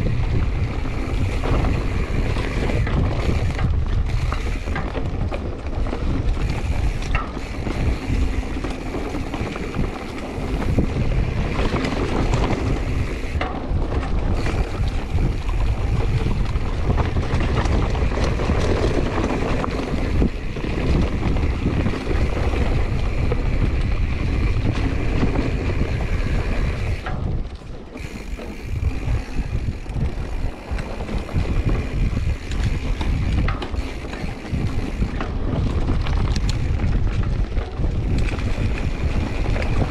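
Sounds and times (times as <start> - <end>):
tyres rolling on dirt: 0.0 - 39.9
wind buffeting microphone: 0.0 - 39.9.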